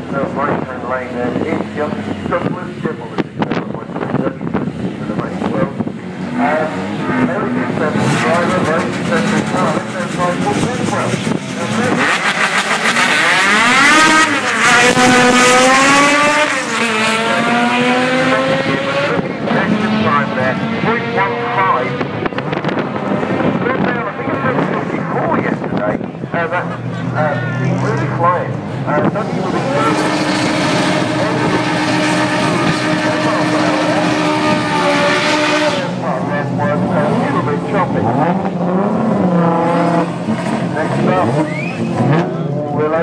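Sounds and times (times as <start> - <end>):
drag racing cars accelerating: 0.0 - 43.0.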